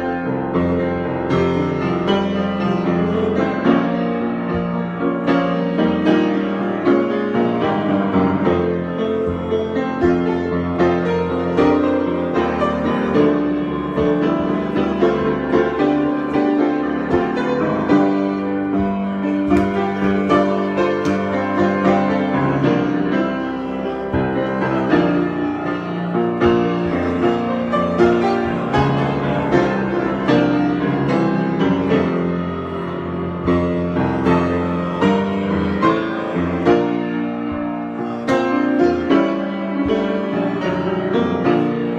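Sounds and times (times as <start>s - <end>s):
solo piano improvisation: 0.0s - 41.9s.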